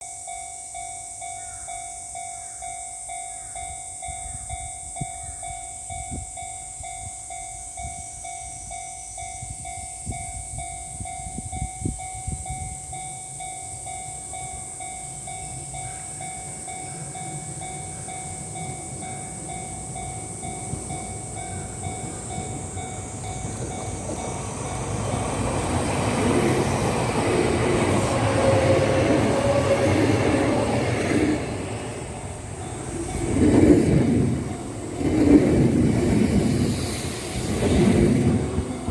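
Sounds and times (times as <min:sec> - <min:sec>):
level-crossing warning bell ringing: 0:00.0 - 0:36.4, 0:38.1 - 0:38.9
electric train running: 0:05.9 - 0:38.9.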